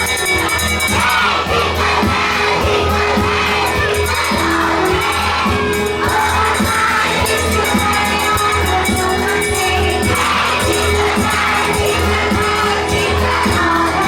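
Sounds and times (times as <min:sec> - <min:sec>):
children singing and shouting: 0:00.0 - 0:14.0
music playing: 0:00.0 - 0:14.0.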